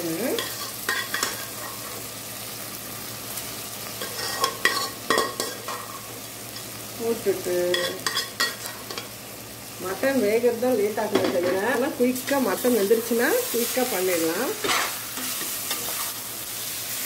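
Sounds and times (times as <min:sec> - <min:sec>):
masala sizzling in pot: 0:00.0 - 0:17.0.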